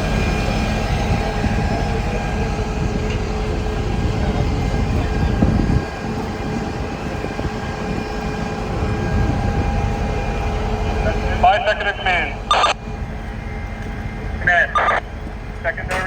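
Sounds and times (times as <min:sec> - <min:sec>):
low rumble of running engines: 0:00.0 - 0:16.0.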